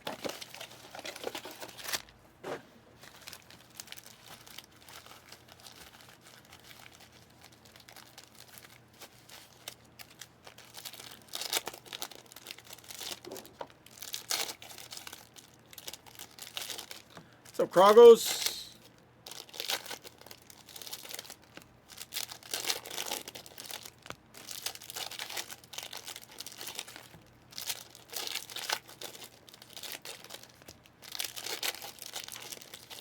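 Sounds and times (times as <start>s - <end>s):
foil wrappers tearing and crinkling: 0.0s - 2.1s, 3.0s - 17.2s, 17.9s - 33.0s.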